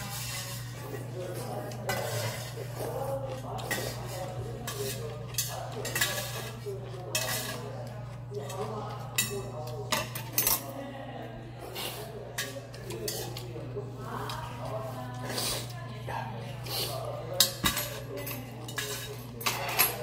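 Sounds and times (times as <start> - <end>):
utensils clinking against a bowl: 0.0 - 11.0, 11.6 - 20.0.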